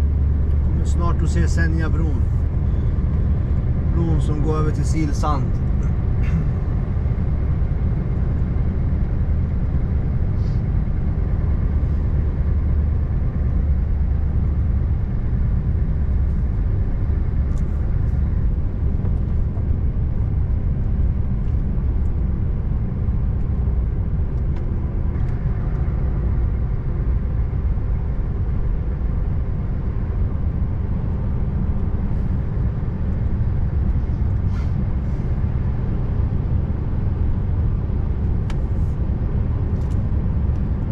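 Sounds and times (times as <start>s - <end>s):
road noise: 0.0s - 40.9s
truck diesel engine rumble: 0.0s - 40.9s.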